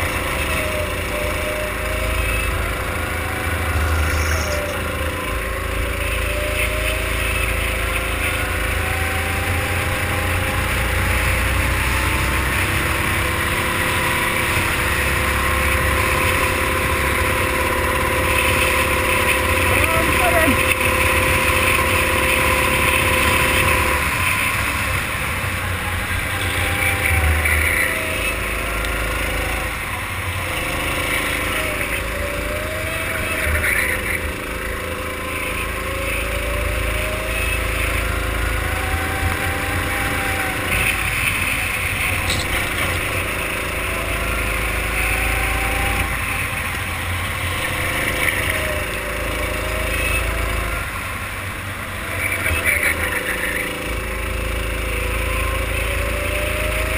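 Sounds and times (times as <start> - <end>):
go-kart engine revving: 0.0 - 56.9.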